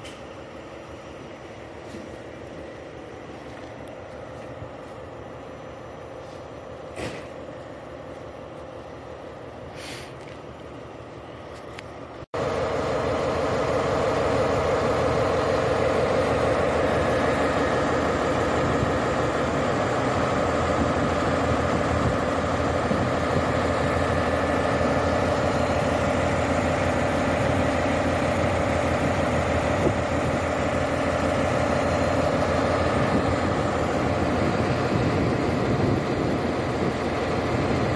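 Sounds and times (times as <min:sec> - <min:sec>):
diesel locomotive engine droning: 0:00.0 - 0:37.9.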